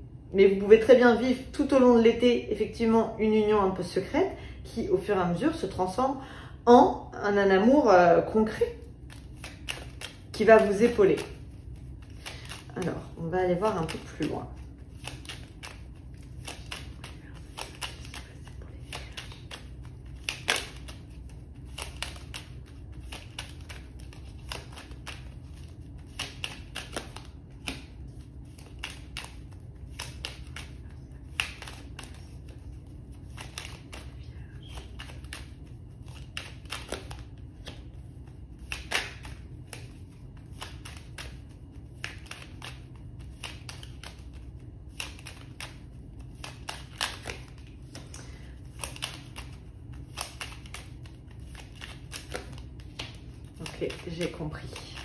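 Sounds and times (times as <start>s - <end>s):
low steady hum: 0.0s - 55.0s
cards shuffling: 8.9s - 55.0s
cards snapping: 9.0s - 55.0s.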